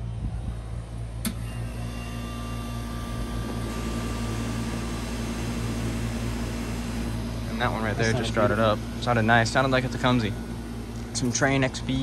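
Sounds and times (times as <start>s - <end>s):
compressor humming: 0.0s - 12.0s
drone of air conditioning units: 0.0s - 12.0s.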